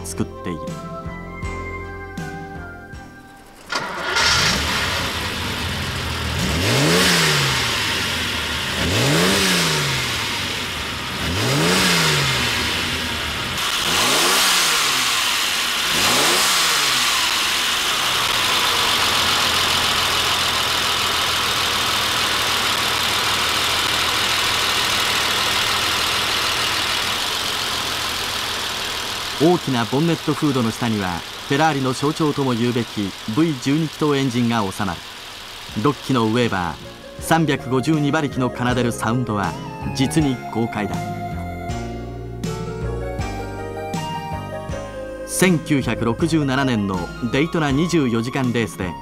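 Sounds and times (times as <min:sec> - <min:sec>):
car engine revving and idling: 0:03.3 - 0:48.5.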